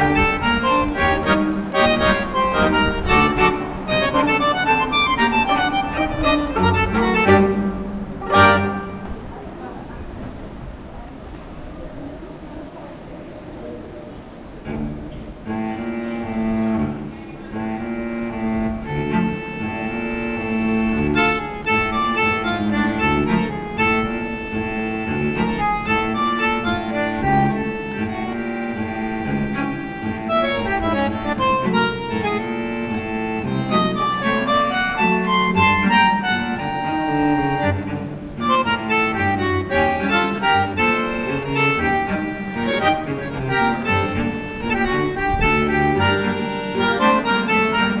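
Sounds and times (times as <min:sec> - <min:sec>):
melody of held notes: 0:00.0 - 0:09.3, 0:15.7 - 0:48.0.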